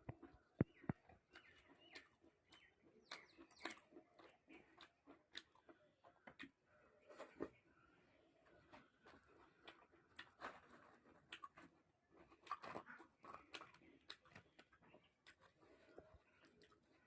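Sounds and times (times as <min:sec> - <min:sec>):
faint chewing: 0:00.0 - 0:17.0.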